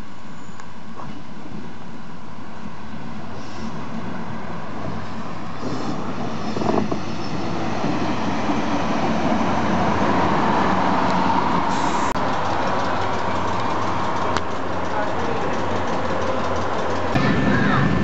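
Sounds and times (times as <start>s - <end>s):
diesel engine drone: 3.1s - 18.0s.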